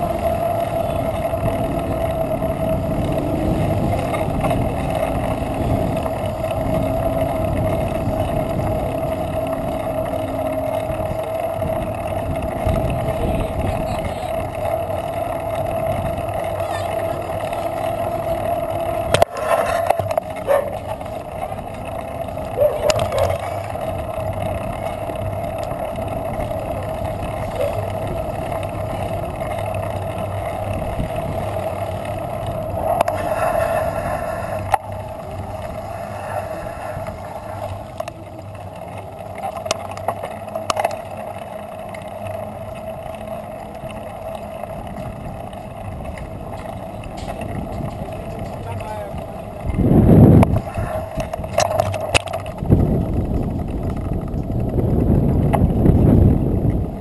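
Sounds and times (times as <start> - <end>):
constant hum: 0.0 - 57.0
muffled rolling and wind rumble: 0.0 - 57.0.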